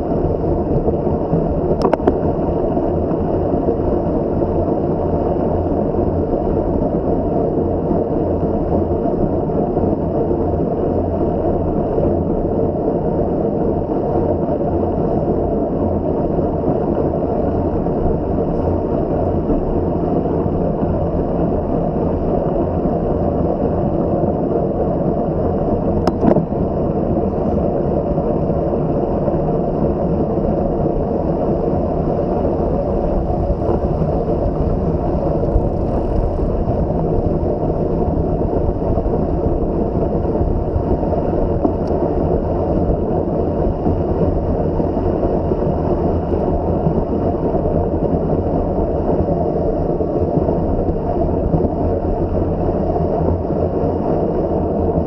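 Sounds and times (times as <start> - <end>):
bicycle tyre noise: 0.0 - 55.0
wind rush: 0.0 - 55.0.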